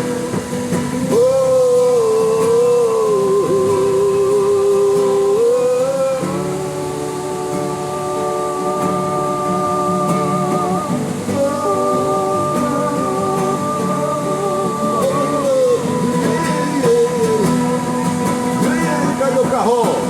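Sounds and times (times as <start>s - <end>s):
live music long held notes: 0.0s - 20.0s.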